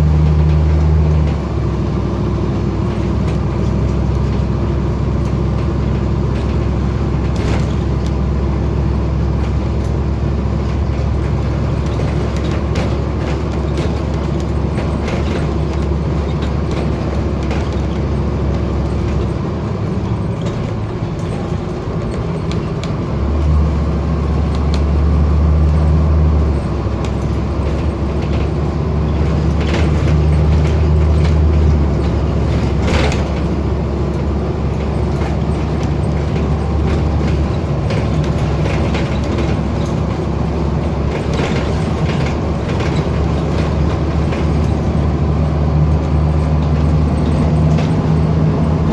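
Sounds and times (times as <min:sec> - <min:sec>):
bus diesel engine running hard: 0:00.0 - 0:48.9.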